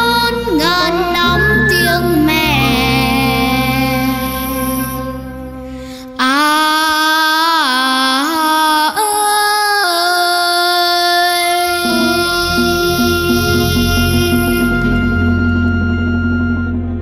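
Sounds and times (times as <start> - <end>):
girl singing long notes: 0.0 - 15.8
recorded backing track: 0.0 - 17.0.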